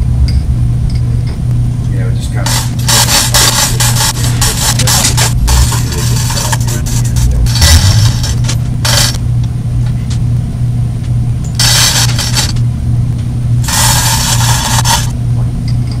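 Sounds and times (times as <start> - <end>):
loud steady low hum: 0.0 - 16.0.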